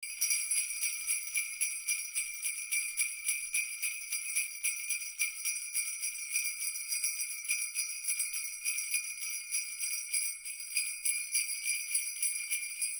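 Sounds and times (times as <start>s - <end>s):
sleigh bells jingling: 0.0s - 12.9s.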